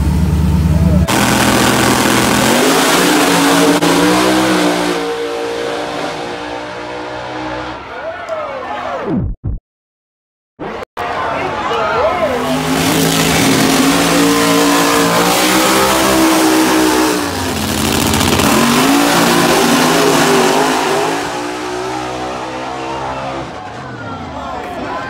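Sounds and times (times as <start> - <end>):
race car engines revving high: 0.0 - 7.8, 12.3 - 25.0.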